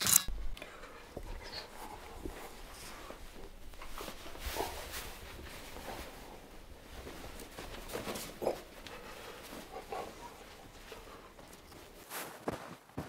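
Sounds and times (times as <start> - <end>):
footsteps: 0.3 - 13.0
soft rustling: 0.3 - 13.0.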